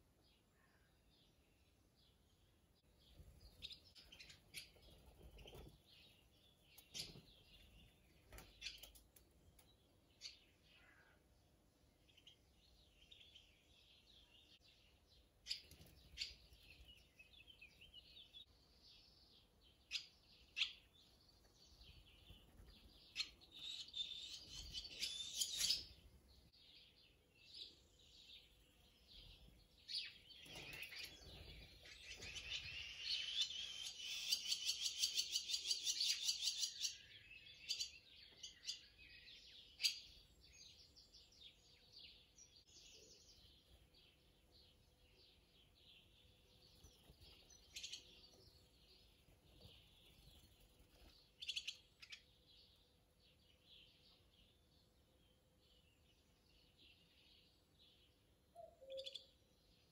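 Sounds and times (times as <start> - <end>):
swallows twittering: 3.0 - 9.0, 15.5 - 54.6, 55.7 - 59.9.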